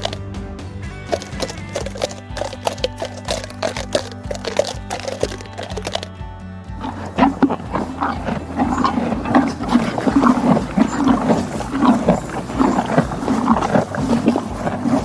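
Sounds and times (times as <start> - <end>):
horse rumbling snort: 1.1 - 6.1, 6.8 - 15.0.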